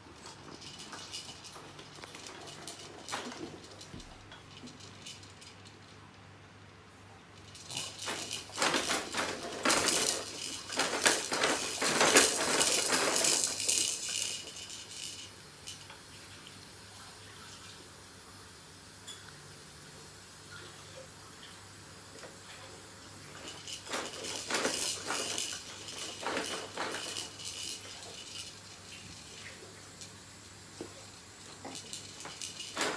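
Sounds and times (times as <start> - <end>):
plastic toys clacking and rattling: 0.0 - 6.4, 7.4 - 16.6, 22.1 - 32.9.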